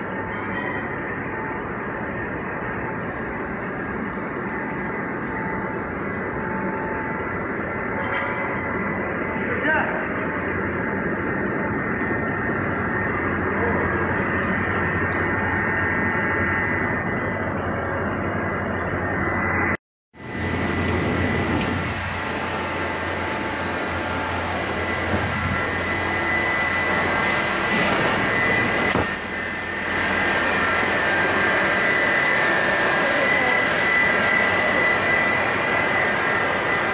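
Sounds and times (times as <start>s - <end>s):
high machine whine: 0.0s - 36.9s
low machine hum: 0.0s - 36.9s.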